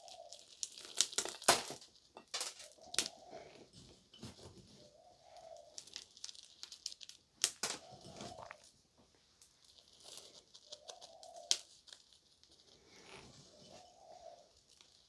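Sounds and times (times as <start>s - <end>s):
biscuit crumbs crackling and scraping: 0.0s - 15.0s.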